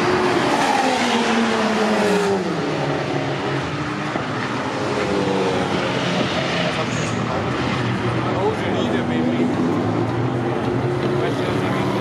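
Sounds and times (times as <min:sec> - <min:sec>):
race car engine passing by: 0:00.0 - 0:12.0
race cars running behind: 0:00.0 - 0:12.0.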